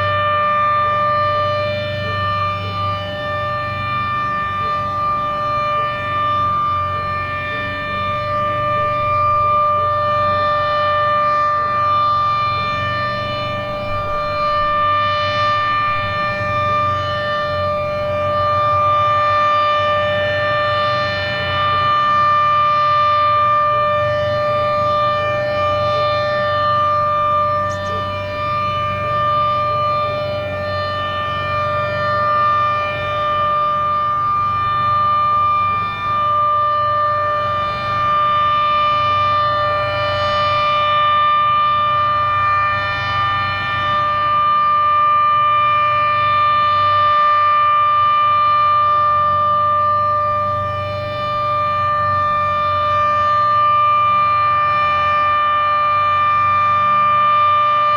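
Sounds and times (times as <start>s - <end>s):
warning siren steady tone: 0.0s - 57.9s.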